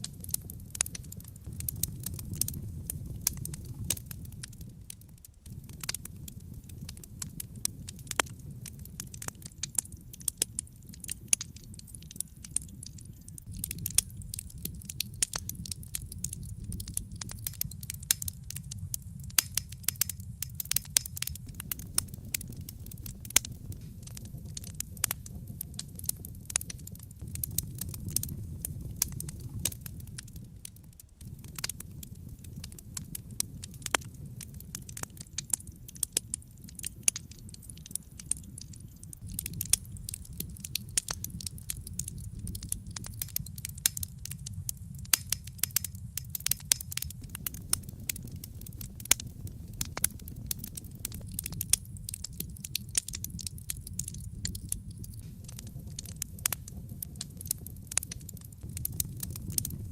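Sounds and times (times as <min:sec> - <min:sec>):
low rumble of flames: 0:00.0 - 0:59.9
wood fire popping and snapping: 0:00.0 - 0:59.9.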